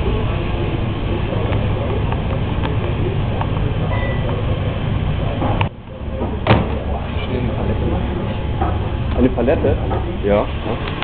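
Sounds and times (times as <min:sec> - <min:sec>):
low rumbling kitchen noise: 0:00.0 - 0:11.0.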